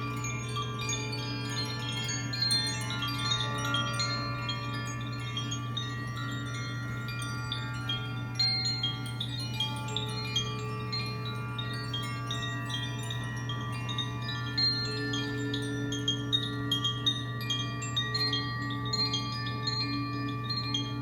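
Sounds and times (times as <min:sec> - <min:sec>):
chimes tinkling: 0:00.0 - 0:21.0.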